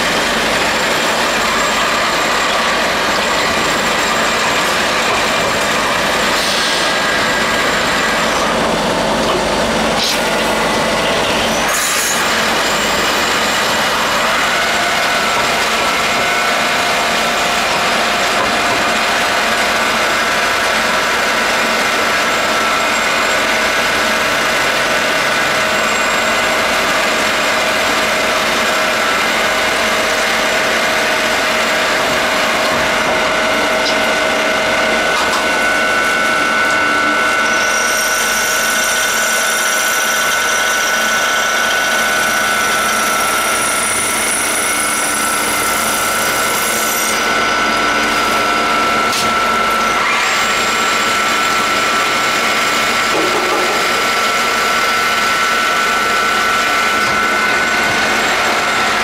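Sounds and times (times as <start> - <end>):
lathe machine running: 0.0 - 59.0.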